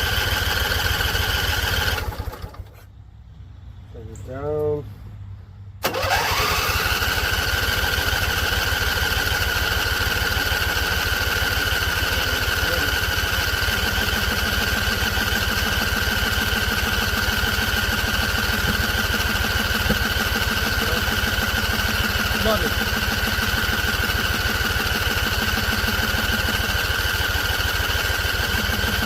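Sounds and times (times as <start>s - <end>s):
mower engine running: 0.0s - 2.8s, 5.8s - 29.0s.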